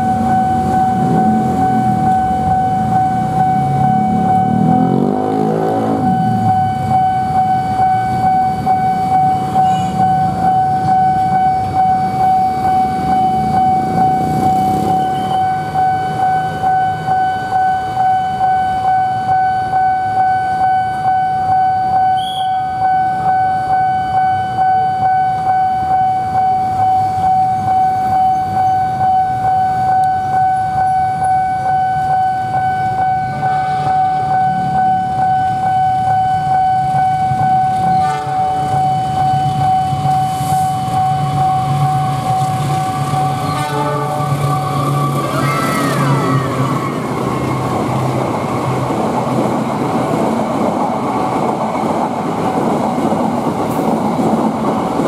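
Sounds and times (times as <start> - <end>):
level crossing alarm tone: 0.0 - 52.4
road traffic rumble: 0.0 - 55.0.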